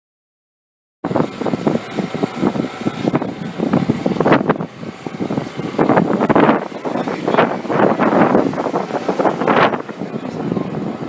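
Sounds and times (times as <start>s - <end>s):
car engine running: 1.0s - 11.0s.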